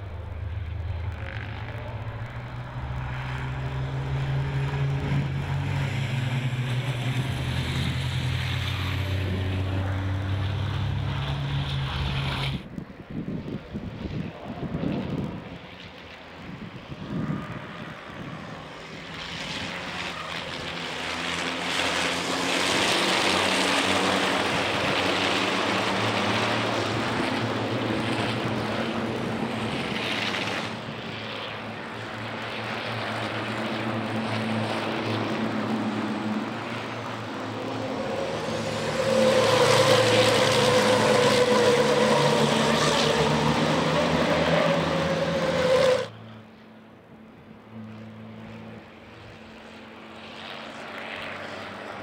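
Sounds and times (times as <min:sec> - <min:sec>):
racing truck engines: 0:00.0 - 0:52.0.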